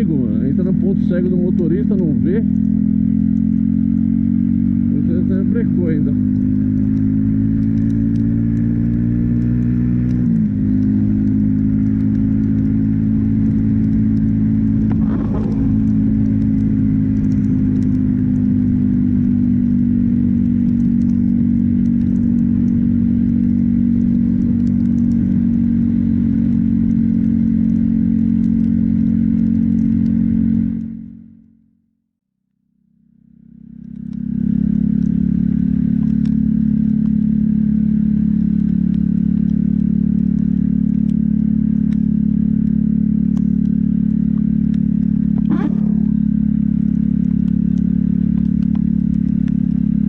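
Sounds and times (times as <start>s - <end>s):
road noise: 0.0s - 31.4s, 33.1s - 50.0s
motorcycle engine cruising: 0.0s - 31.5s, 33.2s - 50.0s.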